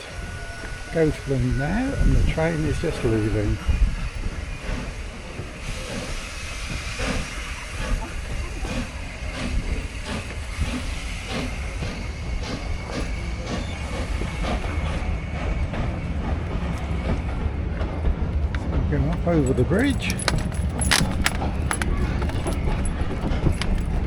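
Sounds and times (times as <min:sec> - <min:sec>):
train clicks and clanks: 0:00.0 - 0:24.0
train rumbling: 0:00.0 - 0:24.0.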